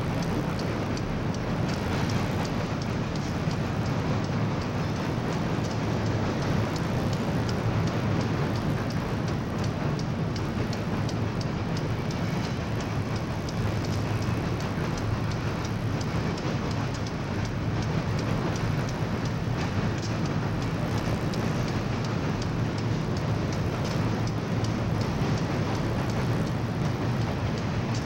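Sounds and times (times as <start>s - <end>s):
freight cars rumbling over bridge: 0.0s - 28.0s.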